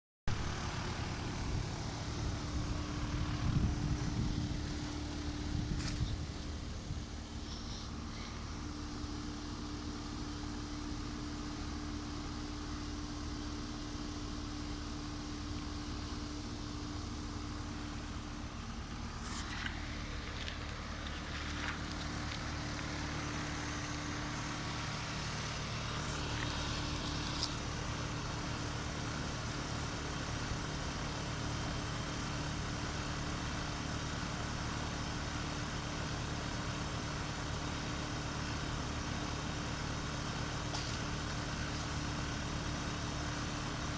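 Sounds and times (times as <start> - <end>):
air conditioner units humming: 0.3 - 43.9.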